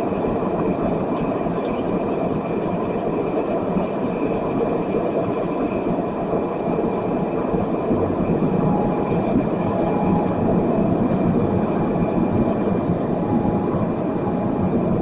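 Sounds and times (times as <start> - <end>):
faint steady whine: 0.0 - 15.0
jet engine rumble in cabin: 0.0 - 15.0.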